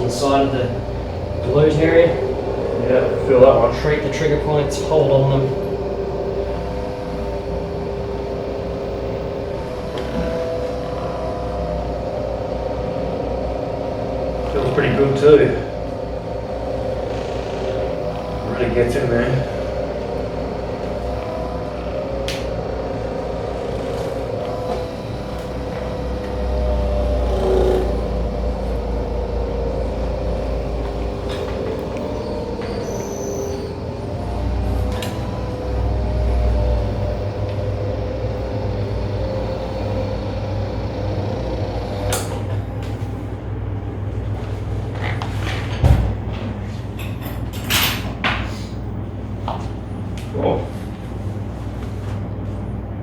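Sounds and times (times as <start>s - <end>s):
held tones: 0.0s - 43.7s
small electric motor humming: 0.0s - 46.4s
faint high whine: 0.0s - 52.6s.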